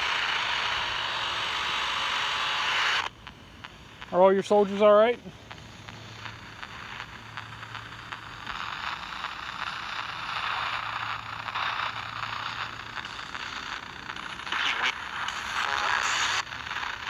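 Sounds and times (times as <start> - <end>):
radio static with crackles: 0.0 - 17.0.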